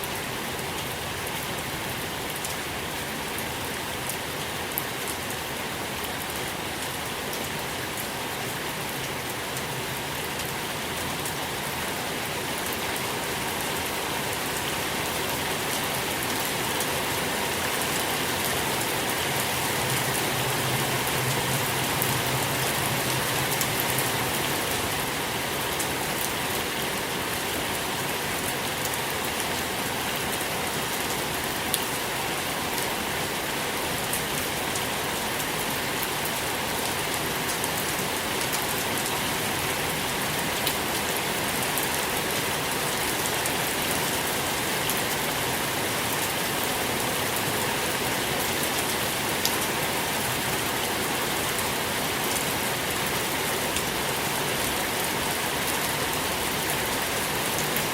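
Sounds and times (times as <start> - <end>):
rain falling on a surface: 0.0 - 57.9.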